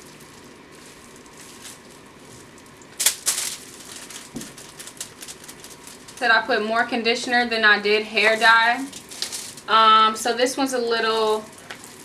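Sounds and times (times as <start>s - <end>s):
dye squishing and stirring: 0.0s - 6.7s, 7.6s - 12.0s.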